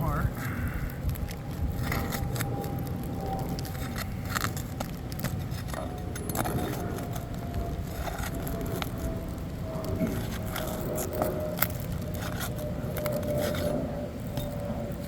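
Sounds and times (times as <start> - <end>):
faint hum: 0.0 - 15.0
low rumble: 0.0 - 15.0
hand tools scraping shingles: 1.3 - 15.0.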